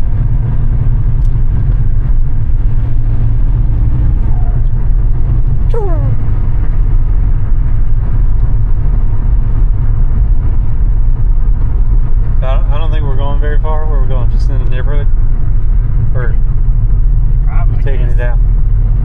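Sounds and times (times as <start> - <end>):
road noise inside moving car: 0.0 - 19.0.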